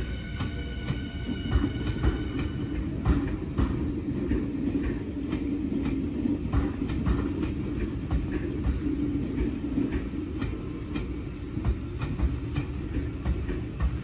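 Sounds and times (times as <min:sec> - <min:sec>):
train rumbling on rails: 0:00.0 - 0:14.0
wheels clicking over rail joints: 0:00.0 - 0:14.0.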